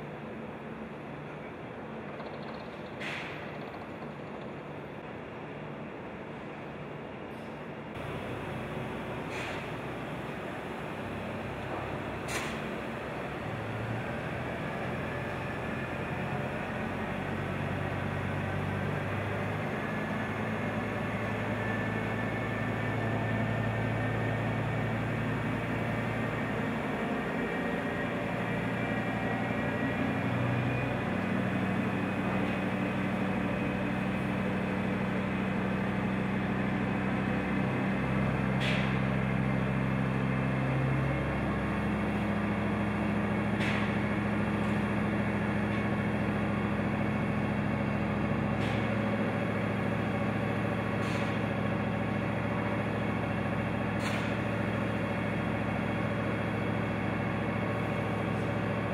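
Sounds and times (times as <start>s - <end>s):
crane diesel engine running: 7.8s - 58.9s.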